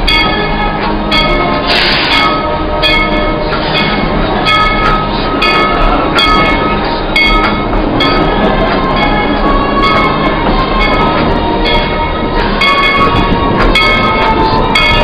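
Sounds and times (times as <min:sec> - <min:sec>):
rhythmic rail clatter: 0:00.0 - 0:15.0
train cars rumbling on rails: 0:00.0 - 0:15.0.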